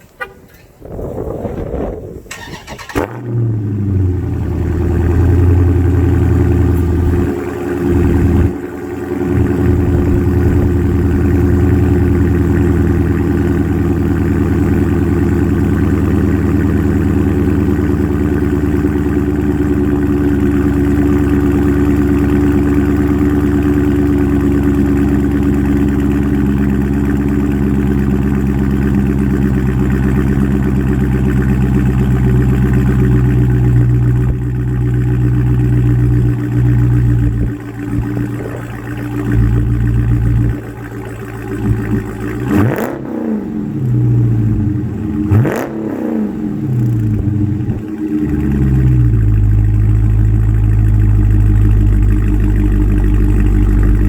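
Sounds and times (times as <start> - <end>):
car engine idling: 1.6 - 54.0.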